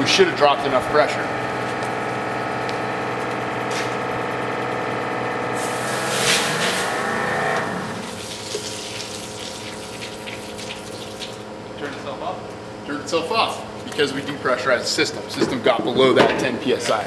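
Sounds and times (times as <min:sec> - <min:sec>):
pump mechanical hum: 0:00.0 - 0:17.0.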